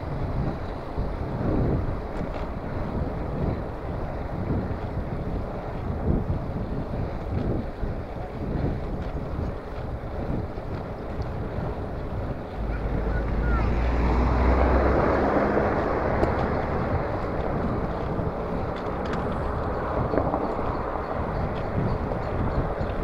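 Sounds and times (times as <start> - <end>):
low rumble: 0.0 - 23.0
wind buffeting microphone: 0.0 - 23.0.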